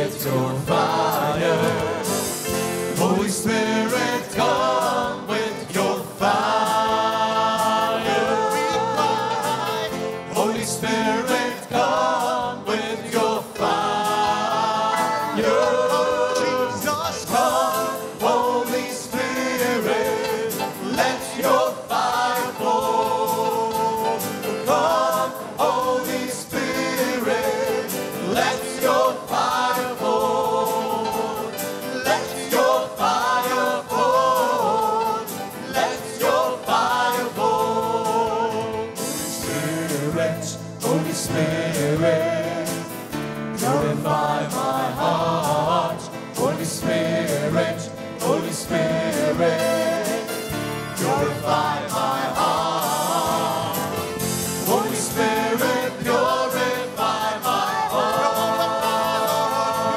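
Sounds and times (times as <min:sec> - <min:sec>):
acoustic guitar: 0:00.0 - 0:59.9
backing vocalists singing: 0:00.0 - 0:59.9.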